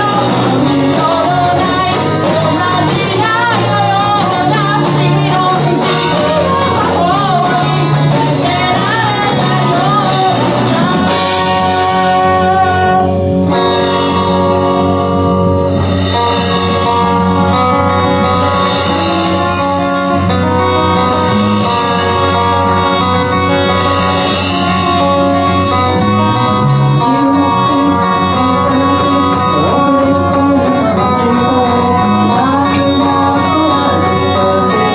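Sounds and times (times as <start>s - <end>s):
person singing: 0.0s - 14.7s, 20.2s - 34.9s
rock band playing: 0.0s - 34.9s.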